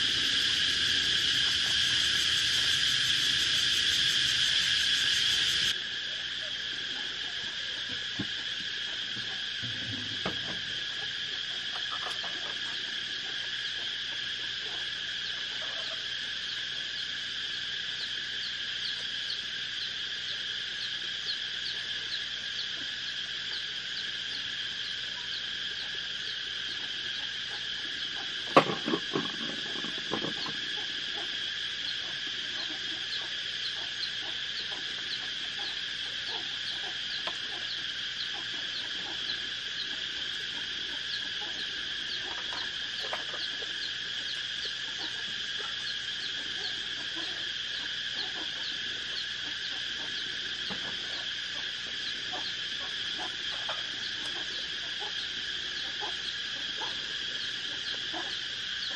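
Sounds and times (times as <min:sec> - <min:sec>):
insects chirping: 0:00.0 - 0:58.9.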